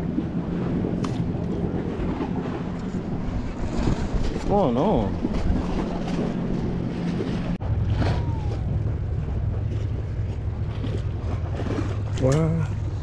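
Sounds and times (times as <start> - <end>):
faint water wash: 0.0 - 13.0
wind buffeting microphone: 0.0 - 13.0.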